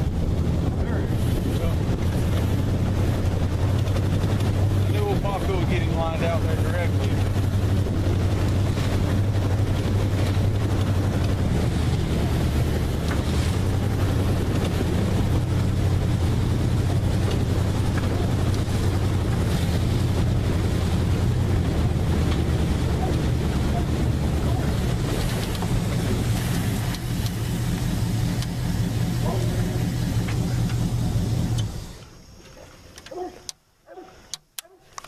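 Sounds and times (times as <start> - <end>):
wind buffeting the microphone: 0.0 - 32.0
boat engine droning: 0.0 - 35.0.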